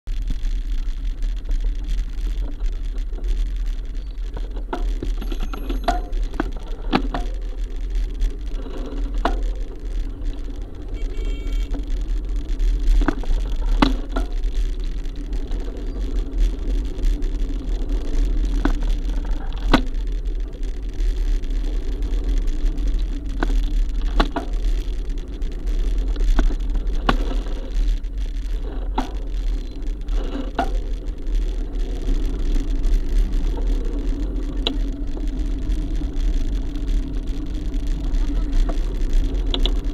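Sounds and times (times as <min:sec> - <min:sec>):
low rumble of traffic: 0:00.0 - 0:39.9
sharp clicks and knocks: 0:00.1 - 0:11.0, 0:11.6 - 0:39.9.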